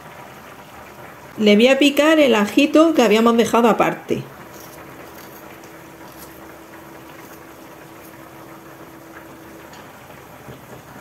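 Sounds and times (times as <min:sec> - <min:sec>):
faint steady hum: 0:00.0 - 0:11.0
pot simmering: 0:00.0 - 0:11.0.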